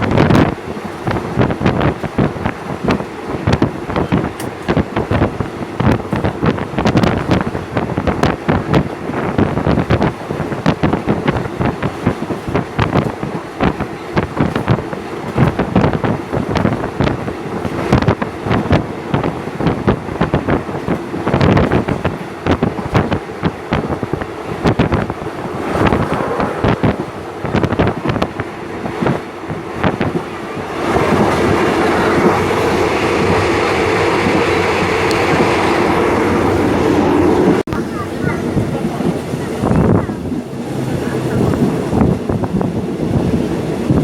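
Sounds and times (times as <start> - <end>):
moving train rumble and clatter: 0.0 - 44.0
wind buffeting microphone: 0.0 - 44.0.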